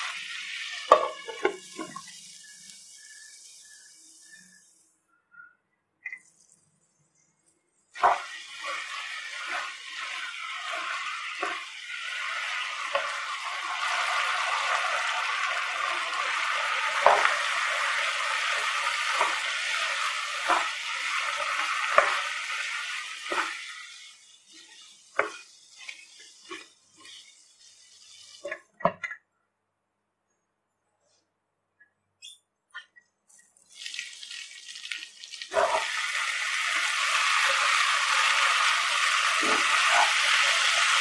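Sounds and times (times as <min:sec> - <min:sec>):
chicken sizzling in a pan: 0:00.0 - 0:04.8, 0:07.9 - 0:28.7, 0:33.7 - 0:41.0.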